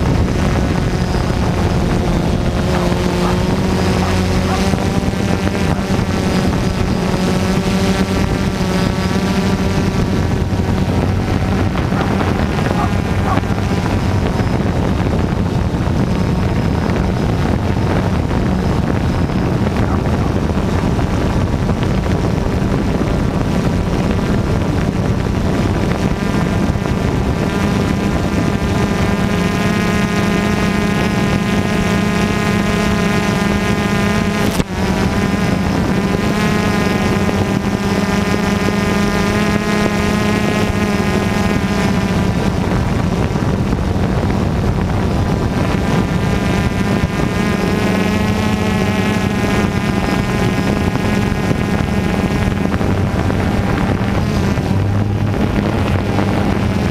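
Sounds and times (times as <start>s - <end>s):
drone propellers buzzing: 0.0s - 56.9s.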